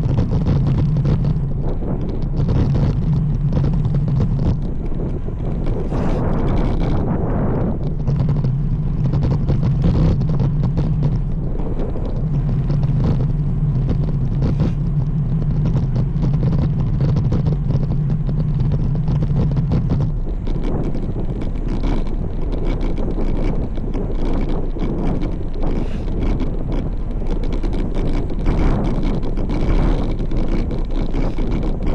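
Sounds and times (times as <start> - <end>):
steady low hum: 0.0 - 31.9
wind buffeting microphone: 0.0 - 31.9.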